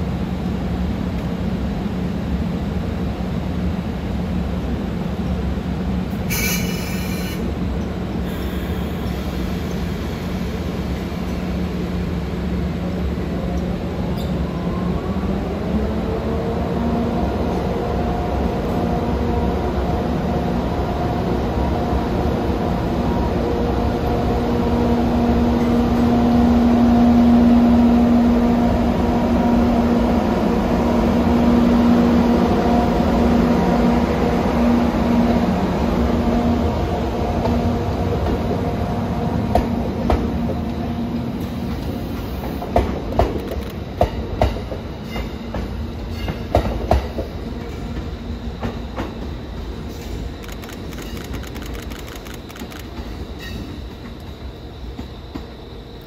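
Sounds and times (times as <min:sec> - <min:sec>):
electric locomotive humming: 0:00.0 - 0:56.0.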